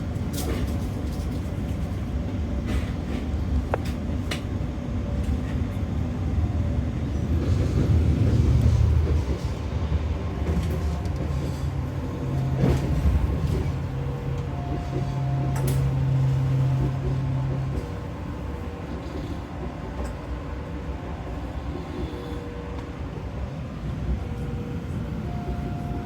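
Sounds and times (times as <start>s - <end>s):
train running low rumble: 0.0s - 26.0s.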